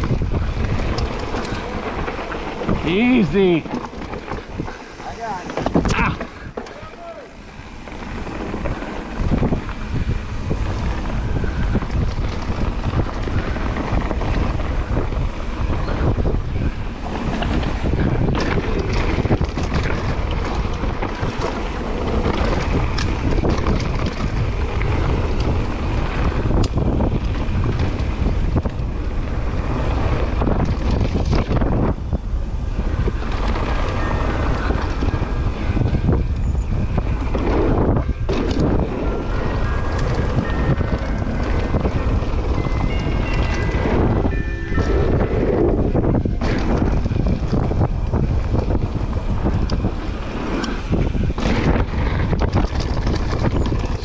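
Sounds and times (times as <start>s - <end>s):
bike knocks and rattles: 0.0s - 45.0s, 45.8s - 54.0s
tyres rolling over dirt: 0.0s - 54.0s
wind rushing over microphone: 0.0s - 54.0s.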